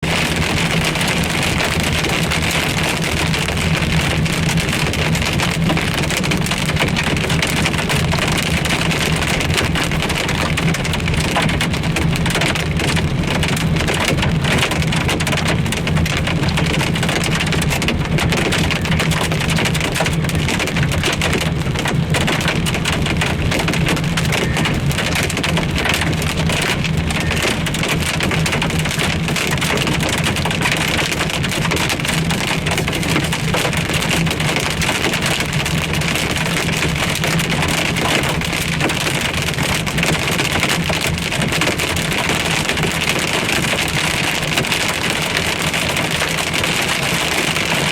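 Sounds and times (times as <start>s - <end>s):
hail and rain on car roof: 0.0s - 47.9s.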